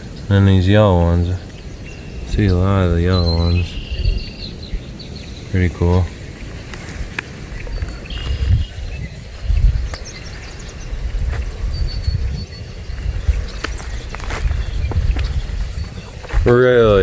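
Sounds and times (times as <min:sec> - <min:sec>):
faint bird chirps: 0:00.0 - 0:16.3
uneven low rumble: 0:00.0 - 0:17.0.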